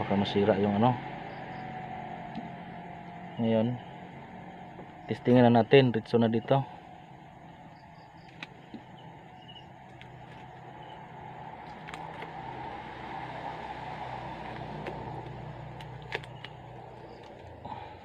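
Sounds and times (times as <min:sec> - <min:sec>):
low rumble and hum: 0:00.0 - 0:18.0.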